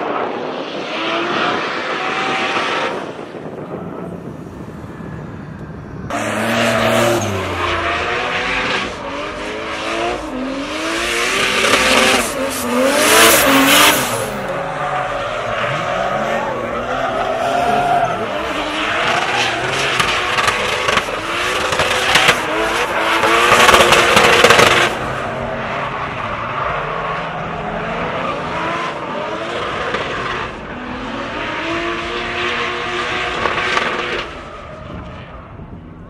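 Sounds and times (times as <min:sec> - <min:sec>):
tires screeching: 0:00.0 - 0:35.9
car engine revving: 0:00.2 - 0:35.4.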